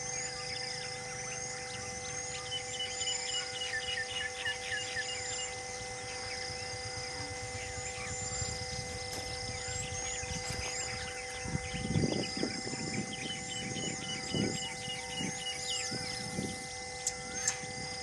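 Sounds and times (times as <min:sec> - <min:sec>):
steady hum: 0:00.0 - 0:18.0
wild birds calling: 0:00.0 - 0:18.0.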